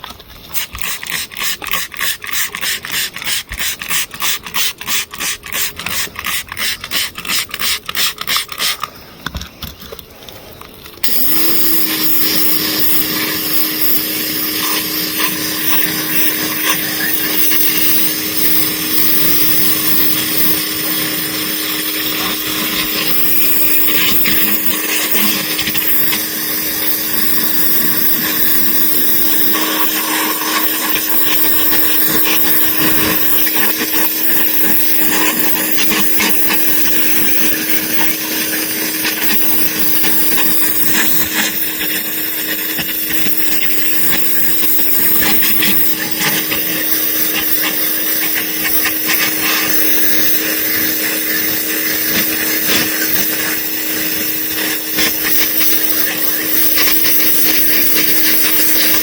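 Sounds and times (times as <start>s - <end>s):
rasping scratchy sound: 0.6s - 8.9s, 11.2s - 59.0s
power tool whining: 10.9s - 59.0s.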